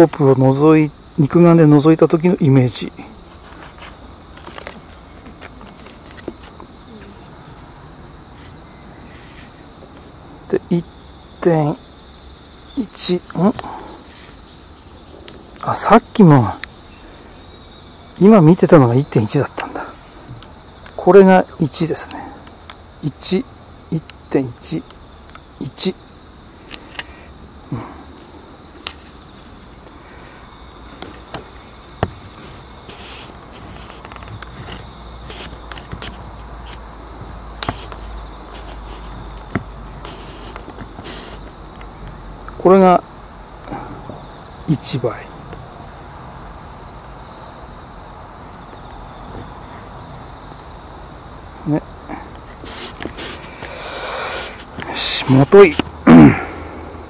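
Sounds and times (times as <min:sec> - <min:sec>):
insect chirring: 0:00.0 - 0:57.0.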